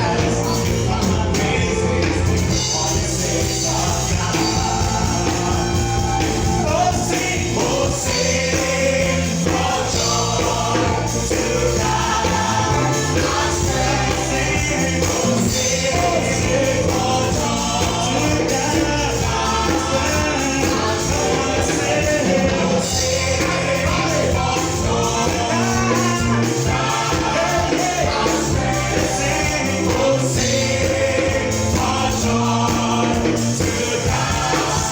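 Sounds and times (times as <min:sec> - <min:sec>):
band playing steady beat: 0:00.0 - 0:34.9
group singing: 0:00.0 - 0:34.9.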